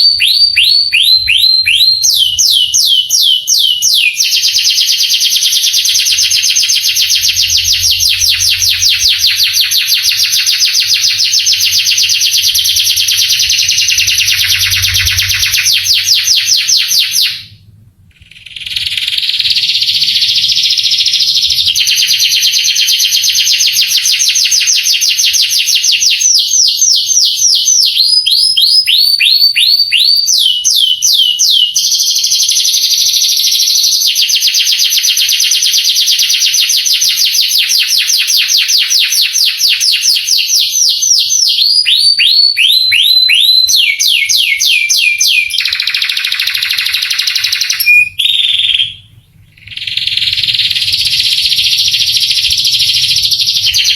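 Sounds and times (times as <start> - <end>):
canary singing trills: 0.0 - 17.5, 18.1 - 53.9.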